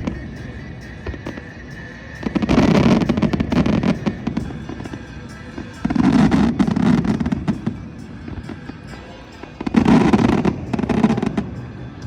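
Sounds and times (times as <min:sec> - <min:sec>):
fireworks popping and crackling: 0:00.0 - 0:12.0.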